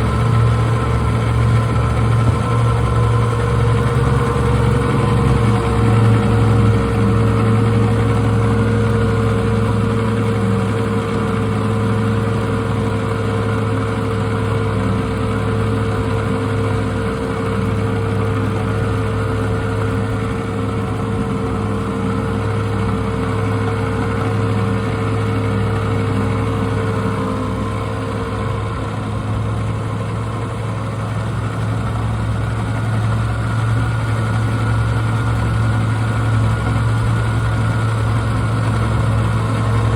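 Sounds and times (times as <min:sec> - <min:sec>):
outboard motors running: 0:00.0 - 0:39.9.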